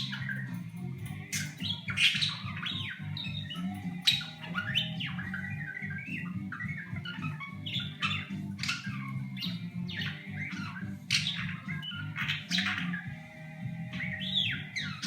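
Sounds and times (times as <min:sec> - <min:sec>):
budgerigar chattering and whistling: 0:00.0 - 0:15.0
budgerigar squawks: 0:01.4 - 0:13.2, 0:14.0 - 0:15.0.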